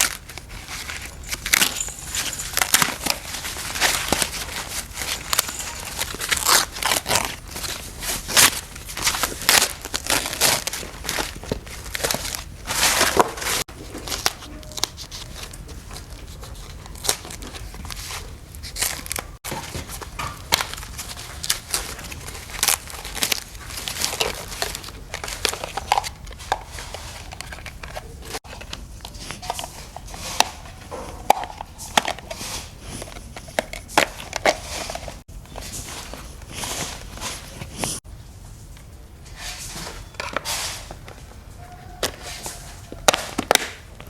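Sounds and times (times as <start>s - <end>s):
crinkling rustling: 0.0s - 38.0s.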